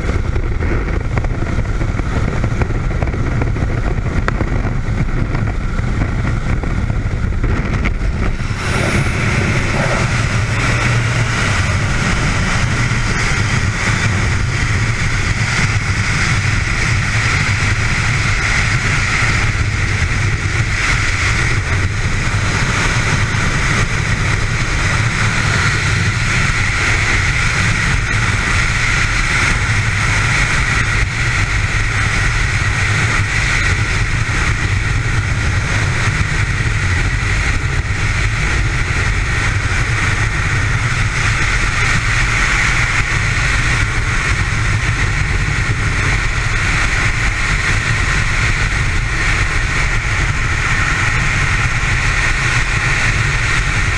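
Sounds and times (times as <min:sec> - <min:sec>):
freefall wind rushing over microphone: 0:00.0 - 0:53.9.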